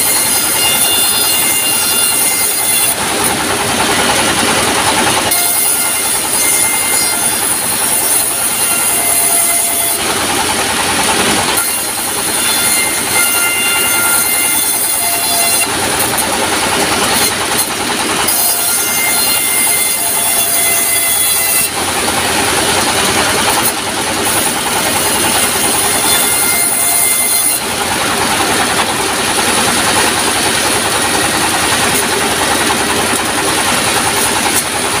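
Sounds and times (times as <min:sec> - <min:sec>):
sawmill saw ripping planks: 0:00.0 - 0:35.0.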